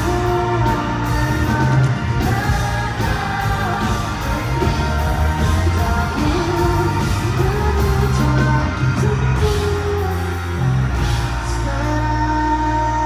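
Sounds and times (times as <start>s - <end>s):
bass line: 0.0s - 13.0s
guitar: 0.0s - 13.0s
man singing into a microphone: 0.0s - 13.0s.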